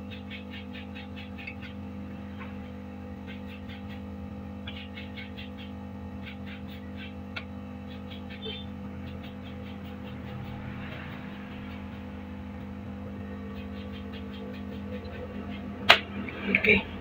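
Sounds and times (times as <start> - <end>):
heat gun blower fan humming: 0.0 - 17.0.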